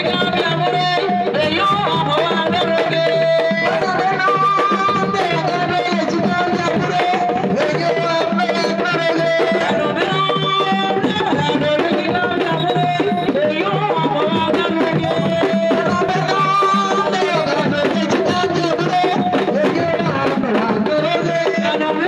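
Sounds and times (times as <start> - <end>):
hand drums rhythm: 0.0 - 22.0
held melody line: 0.0 - 22.0.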